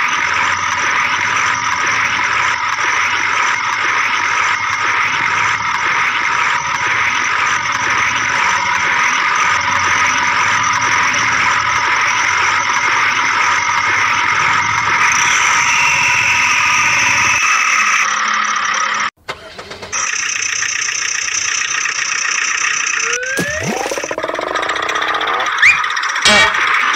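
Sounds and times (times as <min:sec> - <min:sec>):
motor running: 0:00.0 - 0:26.9.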